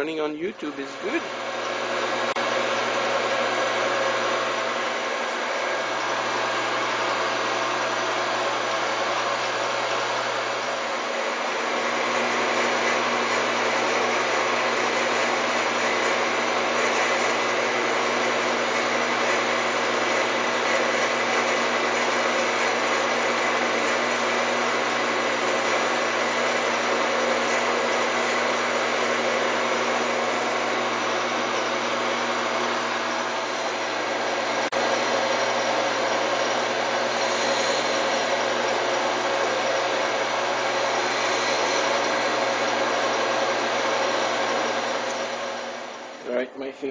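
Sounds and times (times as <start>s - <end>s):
metal lathe whining: 0.0s - 46.7s.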